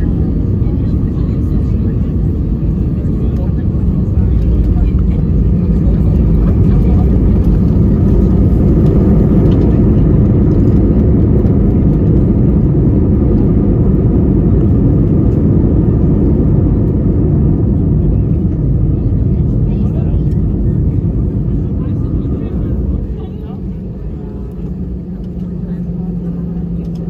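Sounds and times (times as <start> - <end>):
low rumble of jet engines: 0.0 - 27.0
wheels rumbling on runway: 0.0 - 27.0.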